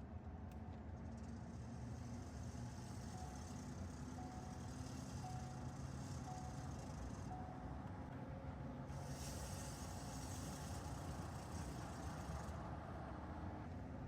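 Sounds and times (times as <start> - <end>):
truck engine rumbling: 1.4 - 13.7.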